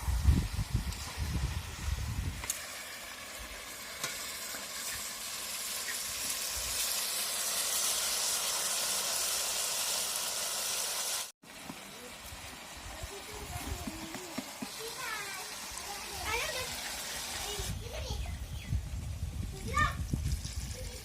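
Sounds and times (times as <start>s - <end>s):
meat sizzling in hot oil: 0.0s - 18.2s.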